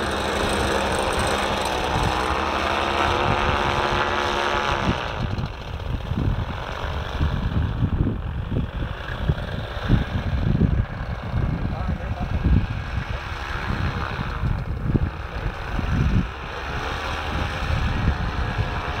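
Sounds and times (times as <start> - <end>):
paramotor engine and propeller: 0.0 - 19.0
wind buffeting microphone: 0.0 - 19.0.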